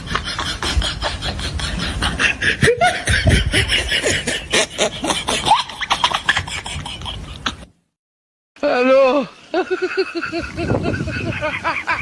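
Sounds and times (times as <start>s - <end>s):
comic laughter sound effect: 0.0s - 7.7s, 9.5s - 12.0s.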